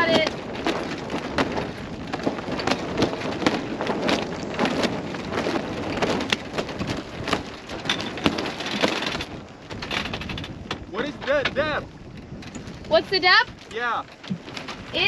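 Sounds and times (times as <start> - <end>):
sail and rigging flapping: 0.0 - 15.0
wind buffeting microphone: 0.0 - 15.0.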